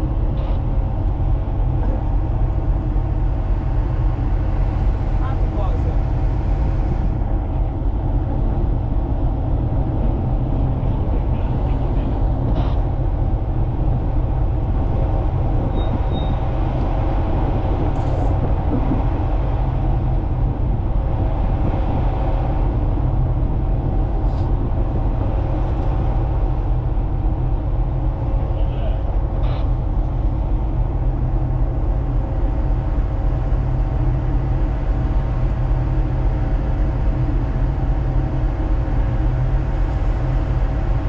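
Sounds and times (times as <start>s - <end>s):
ship diesel engine droning: 0.0s - 41.0s.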